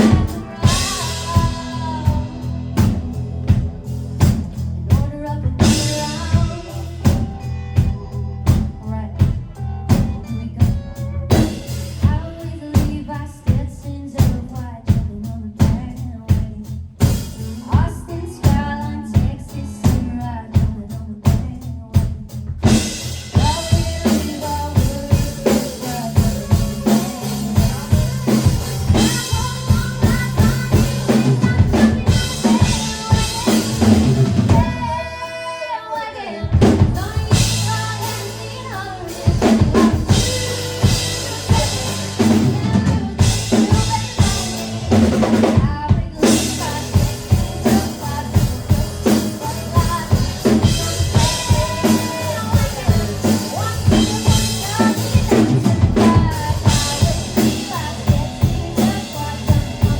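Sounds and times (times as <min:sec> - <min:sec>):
drum kit beat: 0:00.0 - 0:35.4, 0:36.0 - 0:59.9
bass line: 0:00.0 - 0:59.9.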